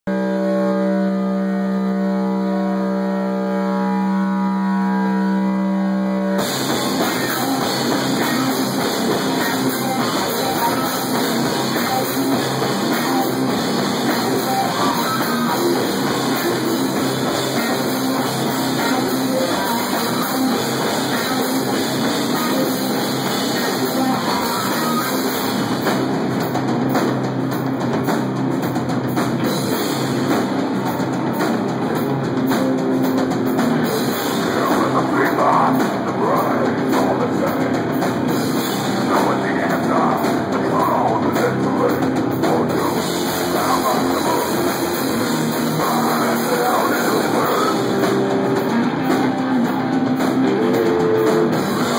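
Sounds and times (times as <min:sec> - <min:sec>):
metal band playing live: 0:06.2 - 0:51.9.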